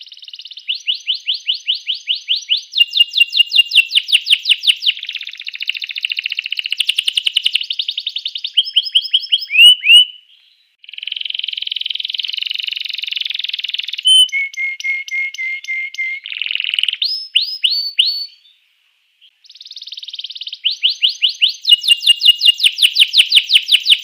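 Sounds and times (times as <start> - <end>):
canary singing: 0.0 - 18.6, 19.4 - 24.0.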